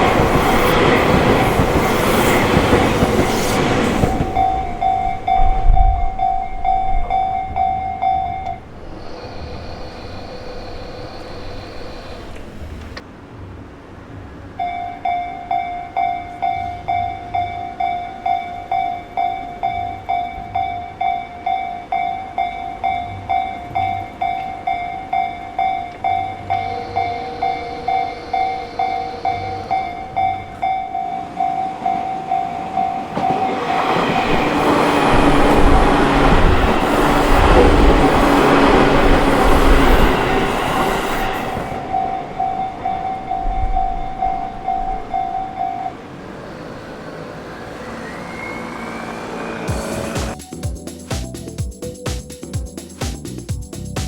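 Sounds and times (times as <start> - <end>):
level crossing warning bell: 0.0 - 13.0, 14.6 - 47.4
steady warning tone: 0.0 - 13.0, 14.6 - 50.9
train wheels on rails: 0.0 - 13.2, 14.0 - 50.5.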